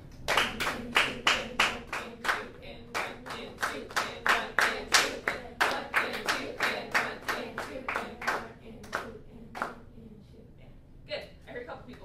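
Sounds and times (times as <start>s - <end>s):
students clapping a rhythm: 0.1s - 9.8s.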